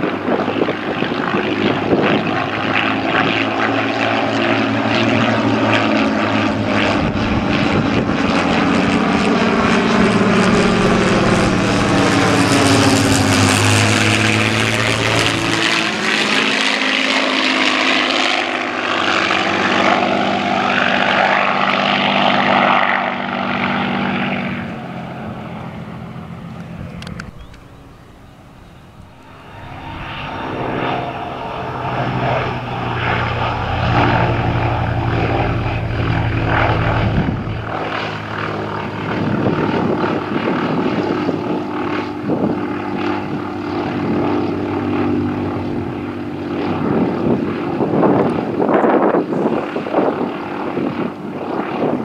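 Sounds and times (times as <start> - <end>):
propeller planes passing overhead: 0.0 - 52.0.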